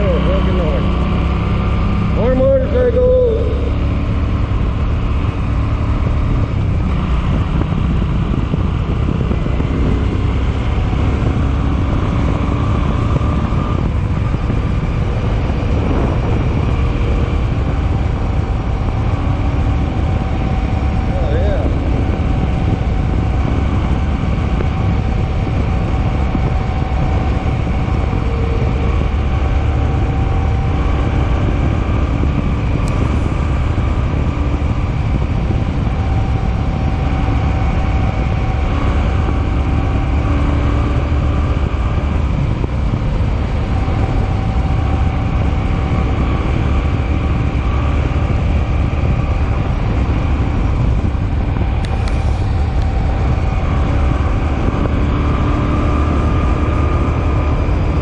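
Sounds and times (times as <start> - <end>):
motorcycle engine droning: 0.0 - 58.0
road noise: 0.0 - 58.0
wind rush: 0.0 - 58.0.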